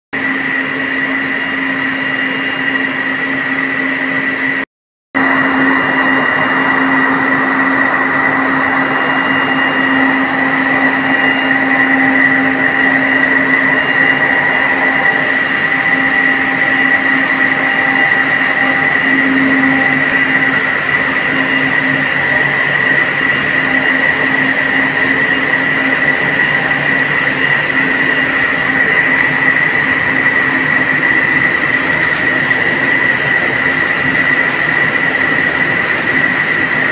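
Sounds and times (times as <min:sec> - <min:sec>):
high machine whine: 0:00.2 - 0:36.9
loud steady machine hum: 0:00.2 - 0:36.9.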